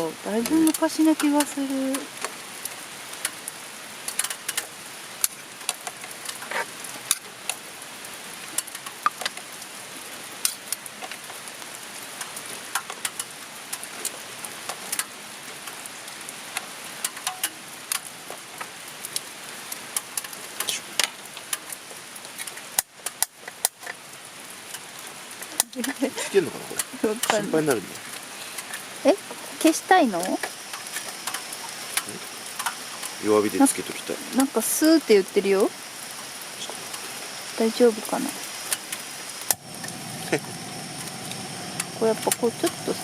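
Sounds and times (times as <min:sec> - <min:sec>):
rain hissing: 0:00.0 - 0:43.0.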